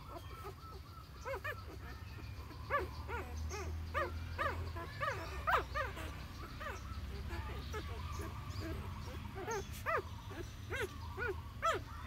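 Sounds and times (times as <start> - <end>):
puppies whimpering: 0.0 - 12.0.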